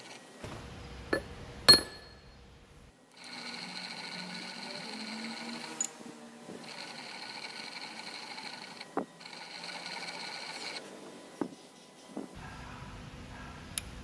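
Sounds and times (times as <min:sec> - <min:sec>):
workshop machine whining: 0:00.0 - 0:14.0.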